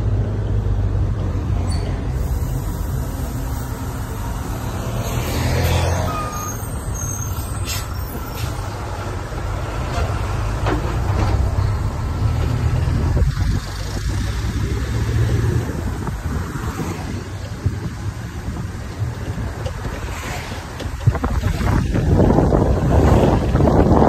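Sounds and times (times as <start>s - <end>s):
minibus engine running: 0.0s - 24.0s
wind and road noise: 0.0s - 24.0s.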